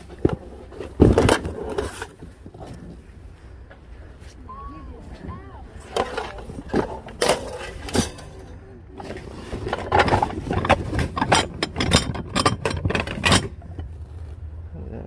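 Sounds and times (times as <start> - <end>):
clinks and scrapes of goods: 0.0 - 3.7, 5.1 - 14.5.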